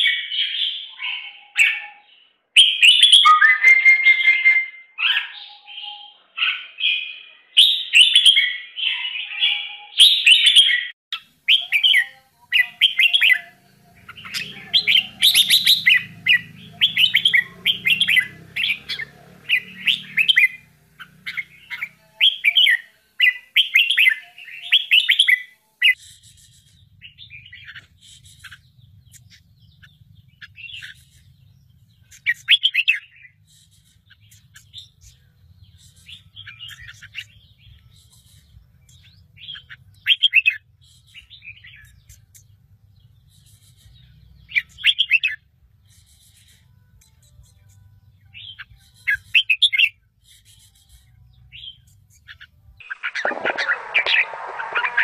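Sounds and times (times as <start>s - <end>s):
bird chicks chirping: 0.0s - 55.0s.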